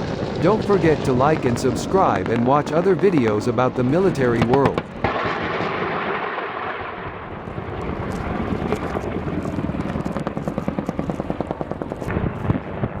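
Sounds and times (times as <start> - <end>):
helicopter rotor and engine: 0.0 - 5.2, 7.3 - 12.7.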